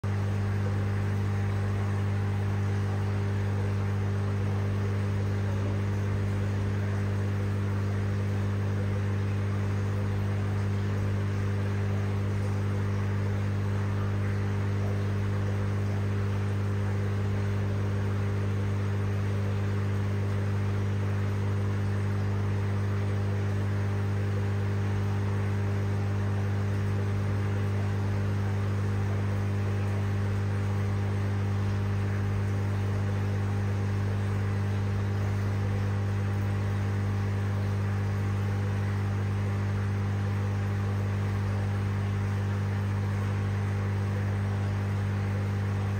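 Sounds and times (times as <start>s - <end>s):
aquarium pumps humming: 0.0s - 45.9s.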